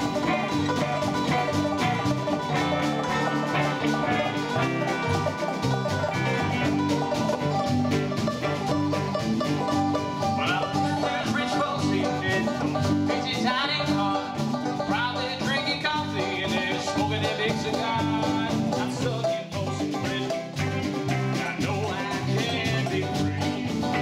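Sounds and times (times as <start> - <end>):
banjo picking: 0.0 - 24.0
fiddle: 0.0 - 24.0
live country-rock band: 0.0 - 24.0.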